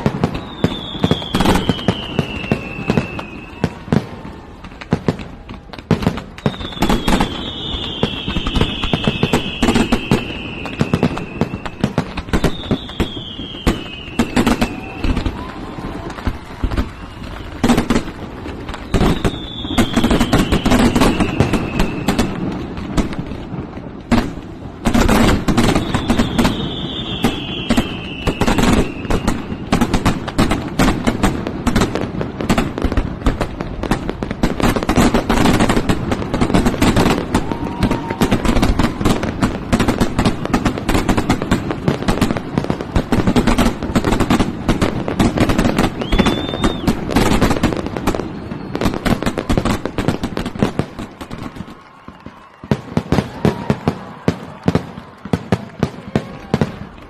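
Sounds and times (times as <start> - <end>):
falling firework whistles: 0.0 - 54.9
fireworks bangs and crackling: 0.0 - 57.0.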